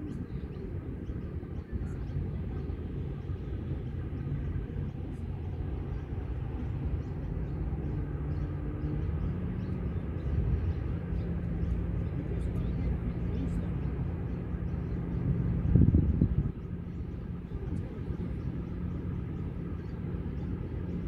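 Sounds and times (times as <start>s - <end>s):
distant engine rumble: 0.0s - 21.0s
engine hum rising in pitch: 0.0s - 21.0s
faint bird chirps: 0.0s - 21.0s.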